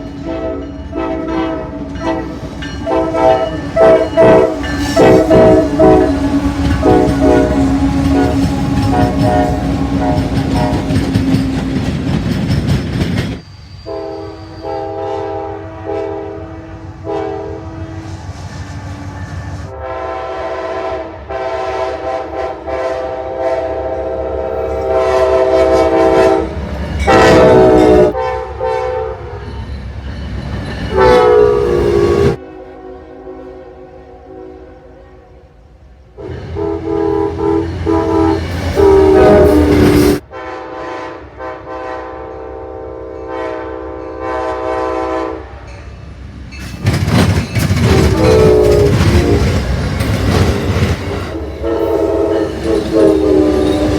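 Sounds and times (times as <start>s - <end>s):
locomotive air horns: 0.0s - 11.8s, 13.8s - 29.4s, 30.9s - 35.4s, 36.2s - 45.6s, 47.8s - 53.9s
low rumble of passing train: 0.0s - 53.9s.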